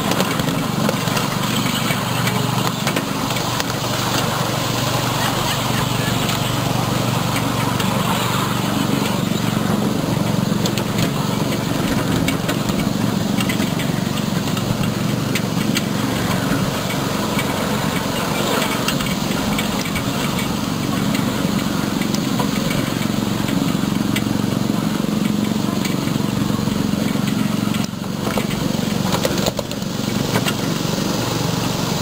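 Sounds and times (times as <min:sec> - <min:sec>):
miniature train rumbling: 0:00.0 - 0:32.0
train clicks: 0:00.0 - 0:32.0.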